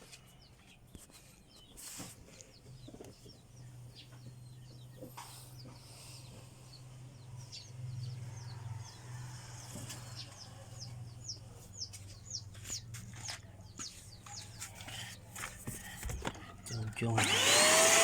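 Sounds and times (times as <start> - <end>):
bird chirping: 0.0 - 17.5.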